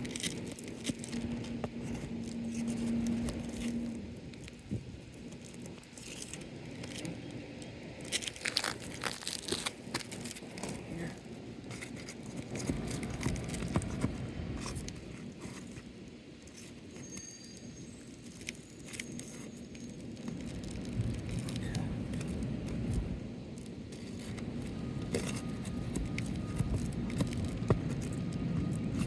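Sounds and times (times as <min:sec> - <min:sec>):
shingles scraping and crackling: 0:00.0 - 0:29.0.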